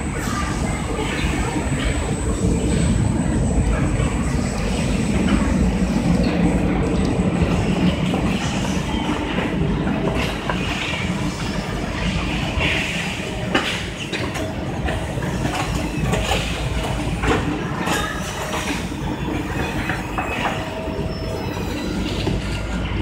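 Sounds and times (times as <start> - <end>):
machinery rumble: 0.0 - 23.0.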